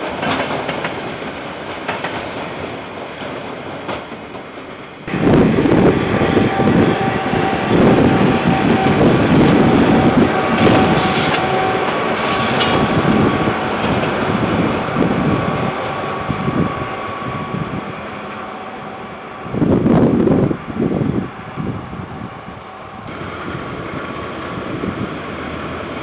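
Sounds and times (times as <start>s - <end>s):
freight train rumbling over rails: 0.0s - 26.0s.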